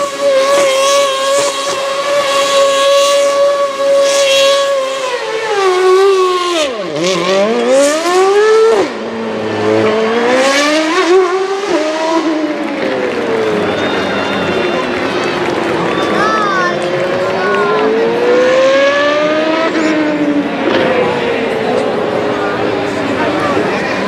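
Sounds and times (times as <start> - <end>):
racing car engine revving: 0.0 - 24.0
tyres spinning in burnout: 0.0 - 24.0.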